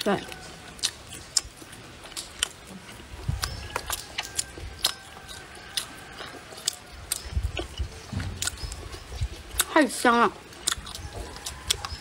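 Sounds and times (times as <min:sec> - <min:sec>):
chewing with mouth smacks: 0:00.0 - 0:12.0.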